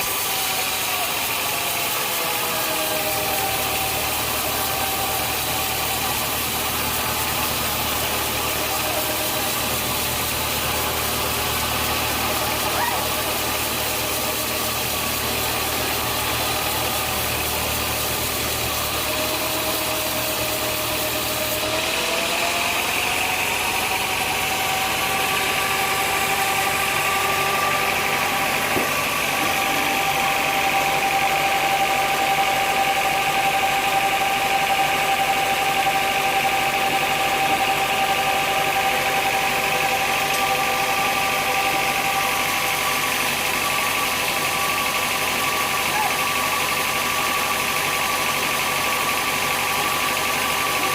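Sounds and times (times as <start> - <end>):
sawmill machinery humming: 0.0 - 50.9.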